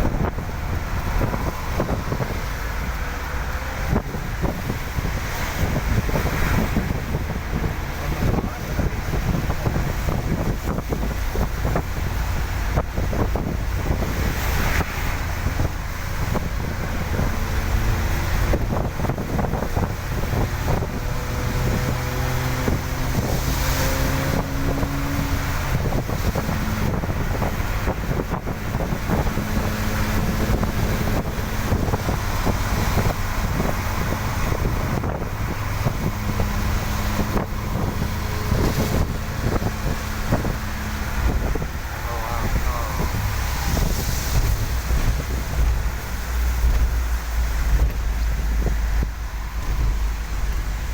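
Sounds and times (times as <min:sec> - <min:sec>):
tyres on wet road: 0:00.0 - 0:50.9
vehicle engine hum: 0:00.0 - 0:50.9.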